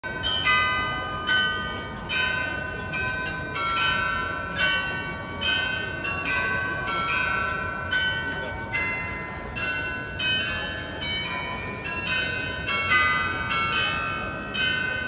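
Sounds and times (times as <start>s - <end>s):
tower bells playing melody: 0.0s - 15.0s.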